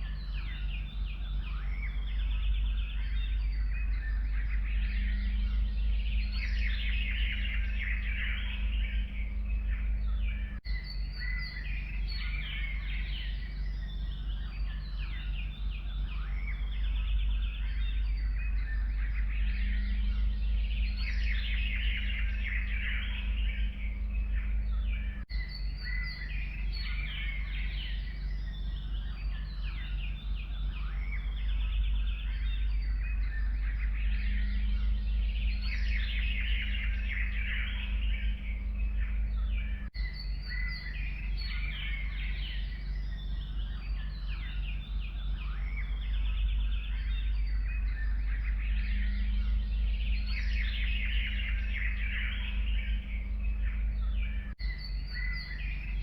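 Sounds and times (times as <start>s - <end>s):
songbirds singing and chirping: 0.0s - 56.0s
steady low rumble: 0.0s - 56.0s.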